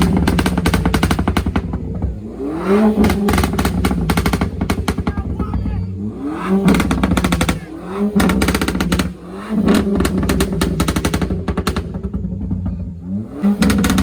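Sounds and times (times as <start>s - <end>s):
car engine revving: 0.0s - 14.0s
exhaust popping: 0.0s - 14.0s.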